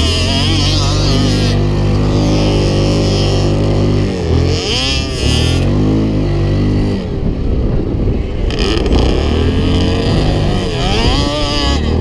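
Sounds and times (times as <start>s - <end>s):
off-road vehicle engines revving: 0.0s - 12.0s.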